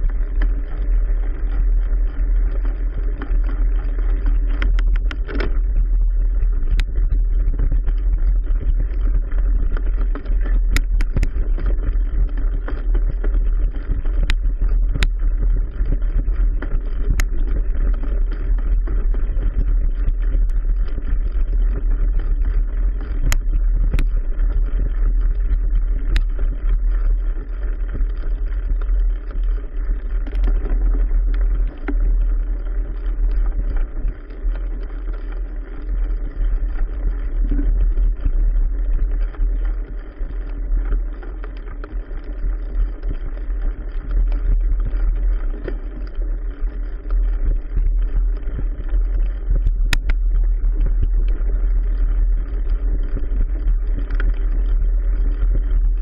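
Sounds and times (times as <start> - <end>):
bike trail rumble: 0.0 - 56.0.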